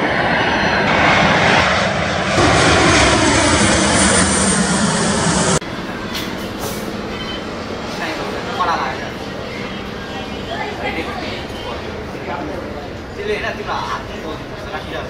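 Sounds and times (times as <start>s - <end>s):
distant engine whine: 0.0s - 15.0s
jet engines roaring: 0.0s - 15.0s.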